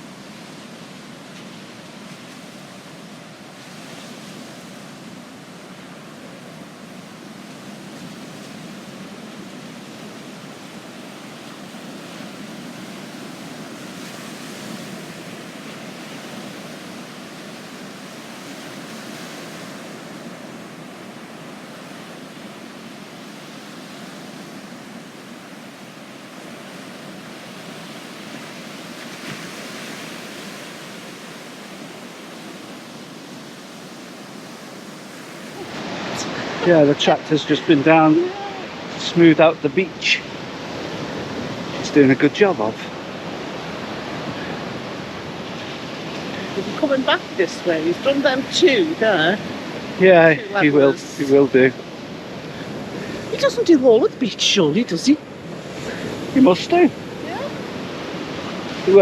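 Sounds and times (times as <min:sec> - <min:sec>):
small waves washing onto sand: 0:00.0 - 0:59.0.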